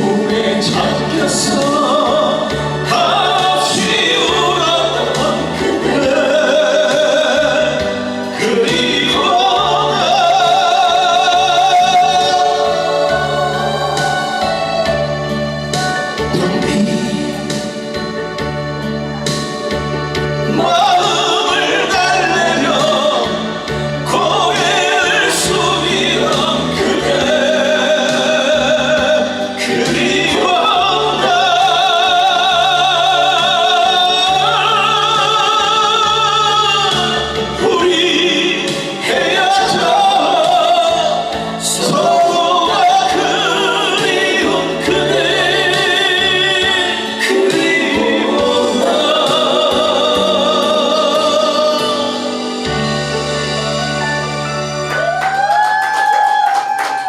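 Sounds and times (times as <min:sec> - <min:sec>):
backing track with bass line: 0:00.0 - 0:57.0.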